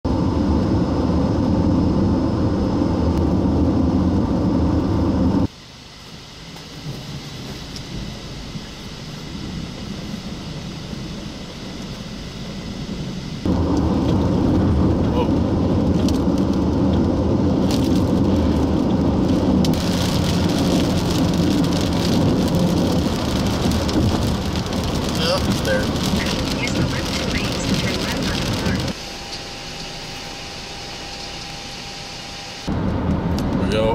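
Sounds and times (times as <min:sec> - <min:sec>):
car road noise rumble: 0:00.1 - 0:33.9
rain on a moving vehicle: 0:03.0 - 0:31.7, 0:32.6 - 0:33.9.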